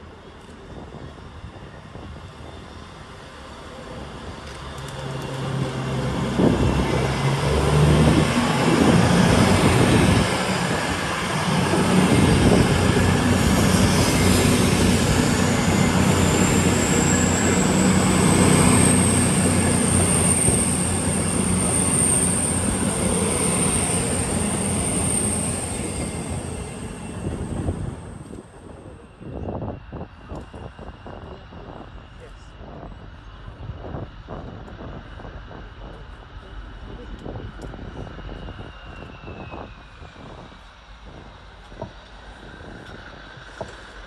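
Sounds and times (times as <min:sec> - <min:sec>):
train running past: 0:00.0 - 0:44.0.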